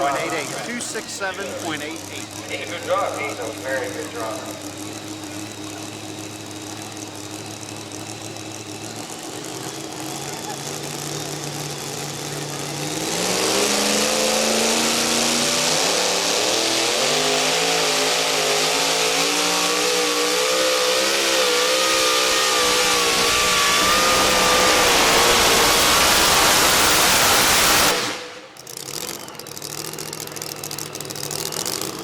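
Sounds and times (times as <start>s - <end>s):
truck engine under full load: 0.0s - 32.0s.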